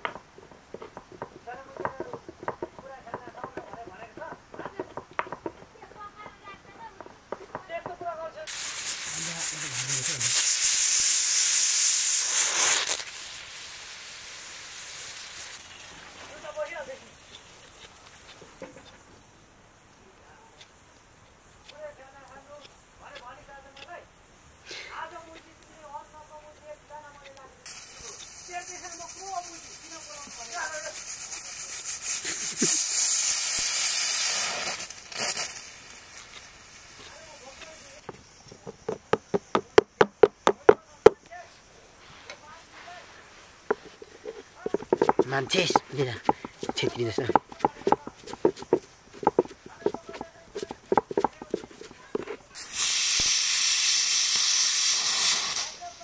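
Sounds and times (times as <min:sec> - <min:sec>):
food sizzling in a hot pan: 0:06.8 - 0:40.2, 0:40.9 - 0:56.0.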